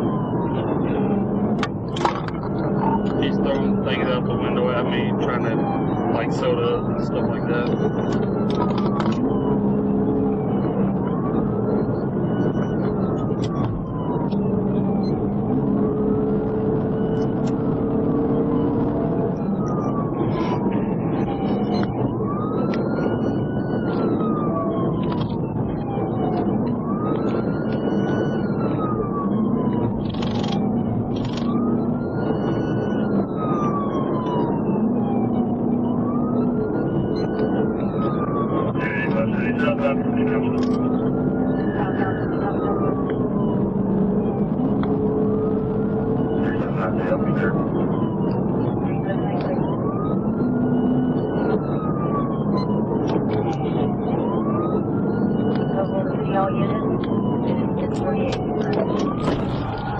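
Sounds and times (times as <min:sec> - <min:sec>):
car engine and road noise: 0:00.0 - 0:59.9
police siren wailing: 0:00.0 - 0:59.9.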